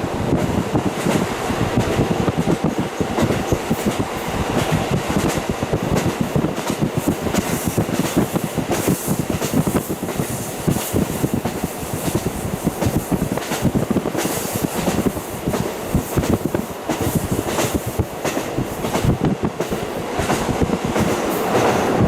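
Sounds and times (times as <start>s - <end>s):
train running noise and wind: 0.0s - 22.0s.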